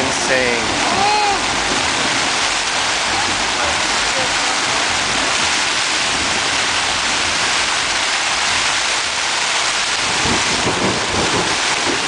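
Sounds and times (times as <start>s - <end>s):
heavy rain on tent fabric: 0.0s - 12.0s.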